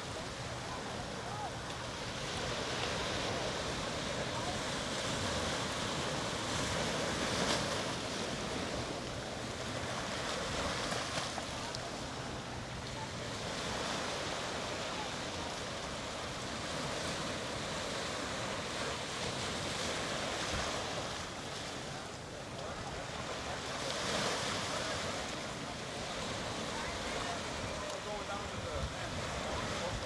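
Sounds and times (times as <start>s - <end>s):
ocean surf washing onto beach: 0.0s - 30.0s.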